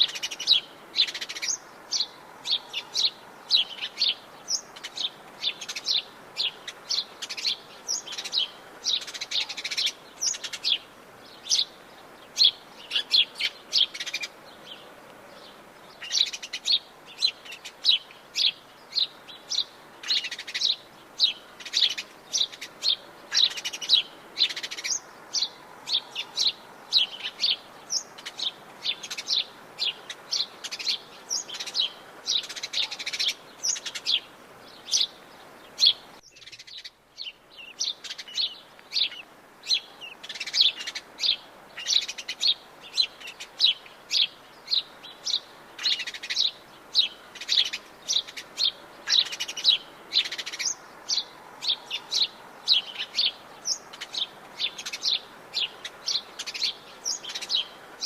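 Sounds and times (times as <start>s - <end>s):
birds chirping and singing: 0.0s - 58.0s.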